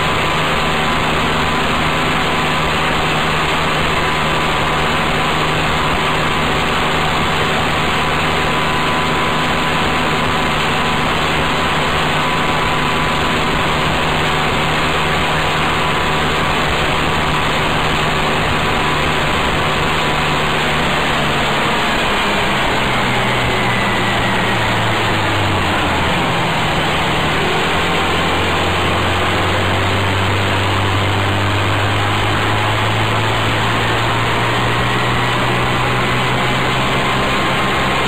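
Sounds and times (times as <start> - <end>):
road noise: 0.0 - 38.0
small engine running: 0.0 - 38.0.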